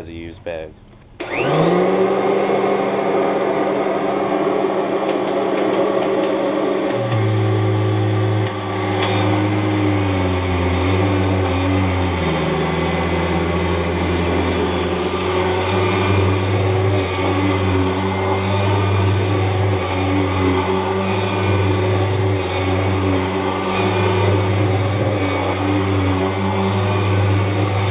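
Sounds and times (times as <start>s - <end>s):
vacuum cleaner running: 0.8s - 27.9s.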